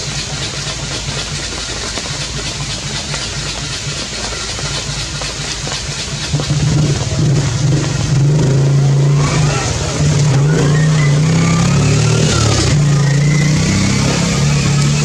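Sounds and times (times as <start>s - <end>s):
low engine hum: 0.0s - 15.0s
rain hissing: 0.0s - 15.0s.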